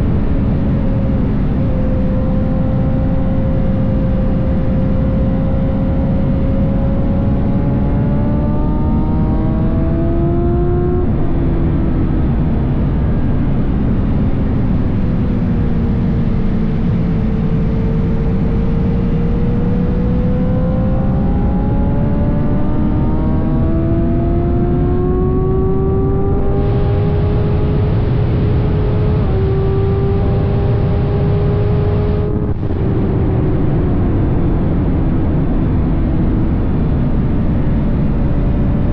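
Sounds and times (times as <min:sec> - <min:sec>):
motorcycle engine accelerating: 0:00.0 - 0:38.9
wind rumble on microphone: 0:00.0 - 0:38.9.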